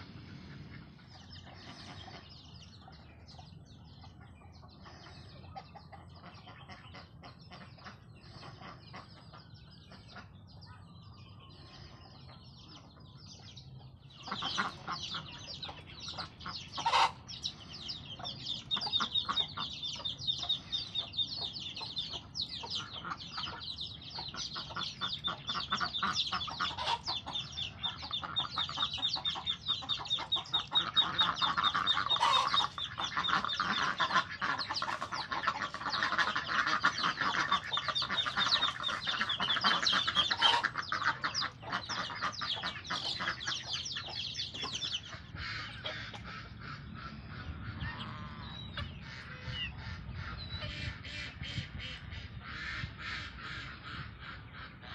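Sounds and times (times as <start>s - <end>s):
chickens clucking: 0.0s - 54.9s
ducks quacking: 0.0s - 54.9s.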